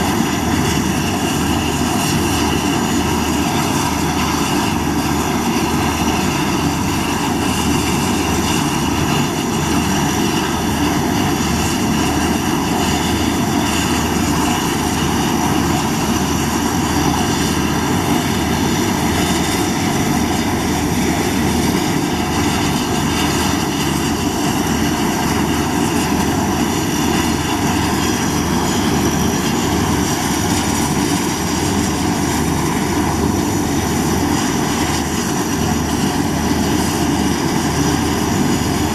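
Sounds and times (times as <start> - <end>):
turboprop engine running: 0.0 - 38.9.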